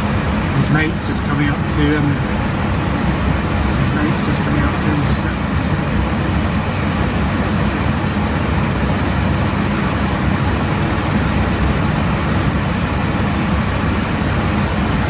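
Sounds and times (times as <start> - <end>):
aircraft cabin airflow and engine: 0.0 - 15.0
low hum: 0.0 - 15.0.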